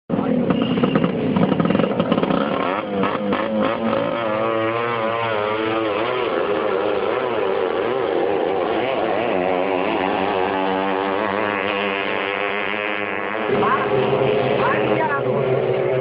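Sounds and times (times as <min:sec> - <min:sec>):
racing boat engine wavering: 0:00.3 - 0:16.0.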